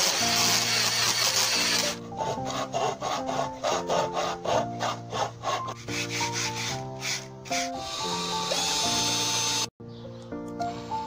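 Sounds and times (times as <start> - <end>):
rasping strokes on wood: 0.0 - 9.5
background music: 0.0 - 11.0.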